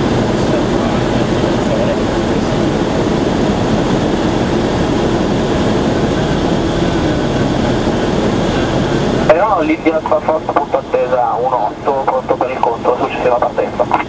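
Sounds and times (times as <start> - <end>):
aircraft cabin engine drone: 0.0 - 14.0.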